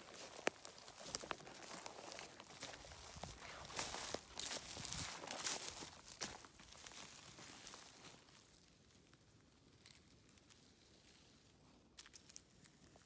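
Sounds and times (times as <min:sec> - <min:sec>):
rustle of dry pine needles: 0:00.0 - 0:13.0.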